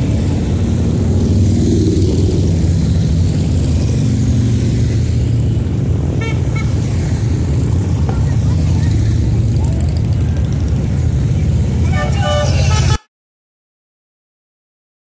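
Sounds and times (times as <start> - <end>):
motorcycles riding past: 0.0 - 13.0.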